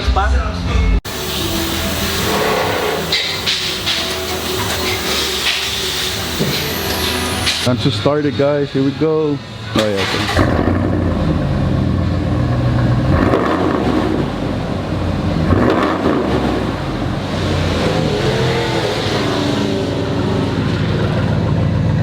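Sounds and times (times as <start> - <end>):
car engine idling and revving: 1.1 - 22.0.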